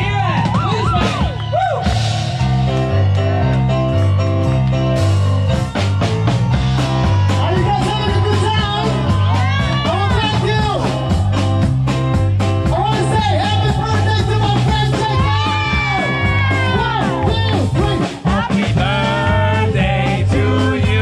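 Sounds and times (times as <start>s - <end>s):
bass line: 0.0s - 21.0s
drums steady beat: 0.0s - 21.0s
electric guitar and keyboard chords: 0.0s - 21.0s.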